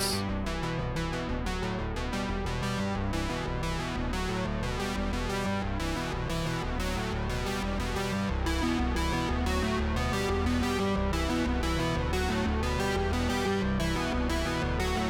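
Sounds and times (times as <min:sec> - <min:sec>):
synthesizer music over a beat: 0:00.0 - 0:15.0.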